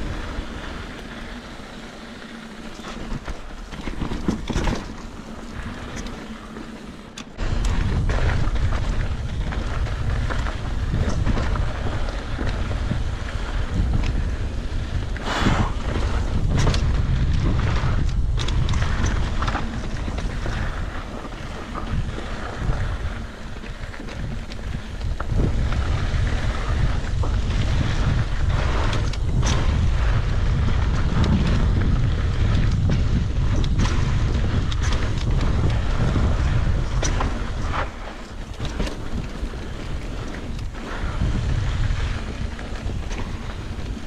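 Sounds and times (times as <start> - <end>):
bike clattering over rough trail: 0.0 - 44.0
wind buffeting microphone: 0.0 - 44.0.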